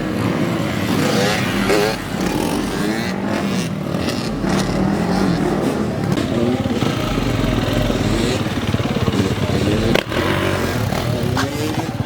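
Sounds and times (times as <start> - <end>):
loud vehicle engines running: 0.0 - 12.0.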